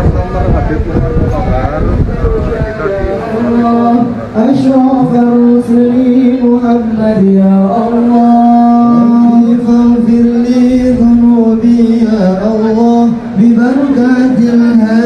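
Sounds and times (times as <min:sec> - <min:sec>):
men chanting over sound system: 0:00.0 - 0:15.0.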